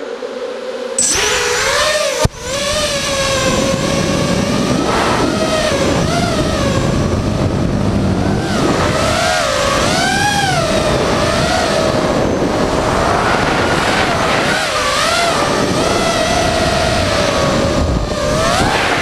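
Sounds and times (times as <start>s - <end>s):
quadcopter motors whining: 1.0s - 19.0s.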